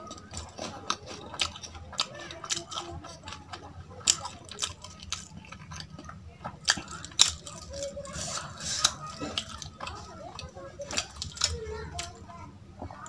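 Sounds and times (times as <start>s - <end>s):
crunchy chewing: 0.0s - 13.0s.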